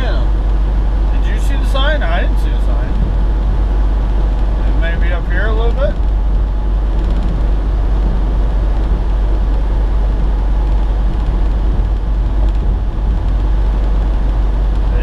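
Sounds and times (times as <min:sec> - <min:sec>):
truck engine and road drone: 0:00.0 - 0:15.0.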